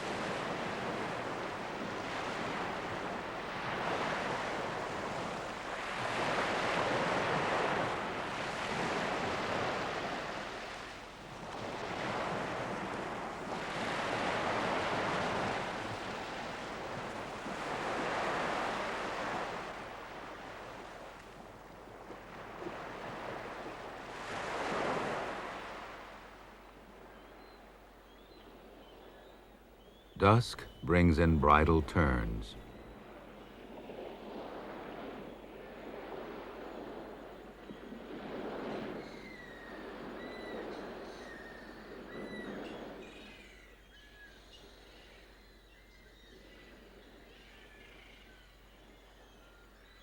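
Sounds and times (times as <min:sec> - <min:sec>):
waves breaking on a beach: 0:00.0 - 0:43.8.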